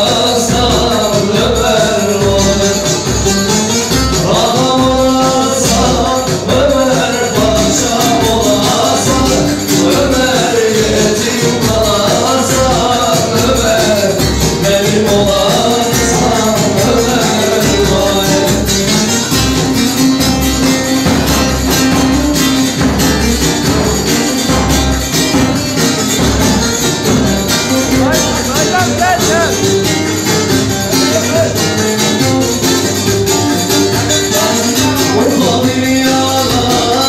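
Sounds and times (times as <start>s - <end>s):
drum beating steady rhythm: 0.0s - 37.0s
plucked long-necked lute: 0.0s - 37.0s.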